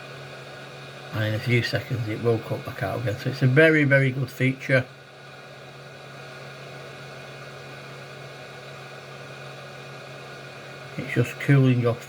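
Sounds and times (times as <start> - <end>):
hot air blower whirring: 0.0 - 12.0.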